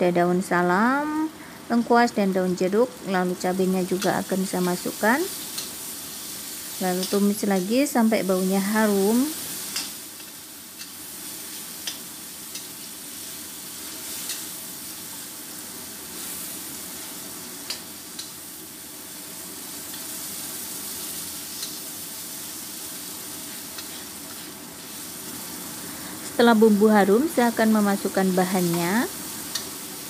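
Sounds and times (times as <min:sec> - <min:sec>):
spice paste sizzling in oil: 0:00.0 - 0:30.0.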